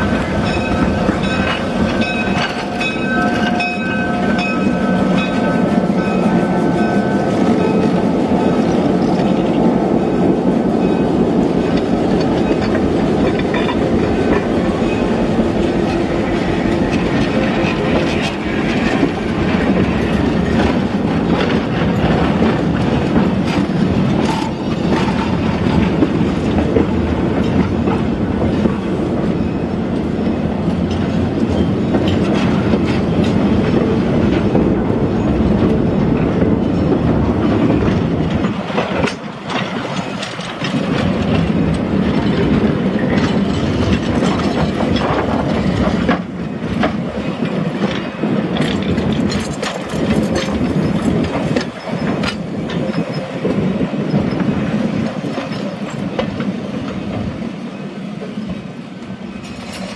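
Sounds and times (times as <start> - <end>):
steel wheels rumbling on rail: 0.0 - 59.9
wheels clicking over rail joints: 0.0 - 59.9.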